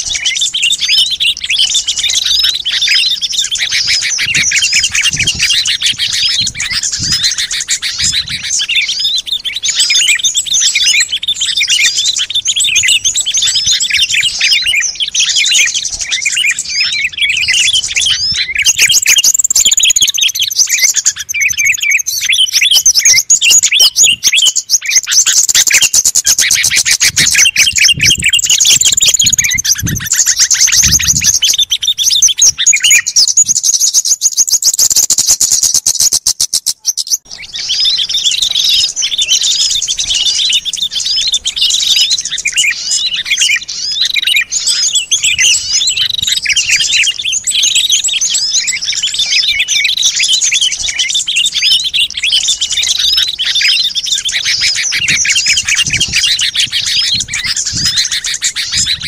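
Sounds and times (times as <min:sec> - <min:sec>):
high-pitched bird calls: 0:00.0 - 0:59.0
songbirds chirping and twittering: 0:00.0 - 0:59.0.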